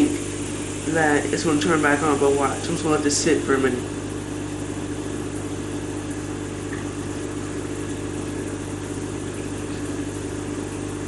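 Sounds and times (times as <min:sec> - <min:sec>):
appliance or fan humming: 0:00.0 - 0:11.0.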